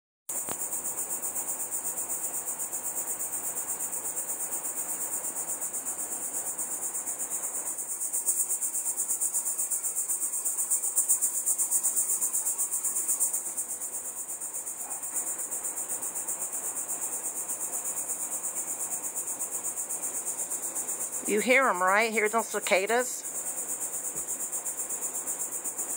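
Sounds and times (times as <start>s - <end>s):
cicadas buzzing: 0.3s - 25.9s.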